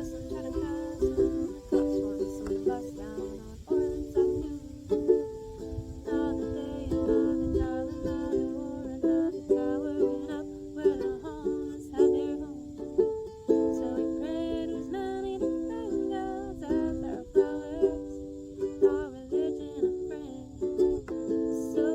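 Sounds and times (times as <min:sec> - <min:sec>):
ukulele strumming chords: 0:00.0 - 0:21.9.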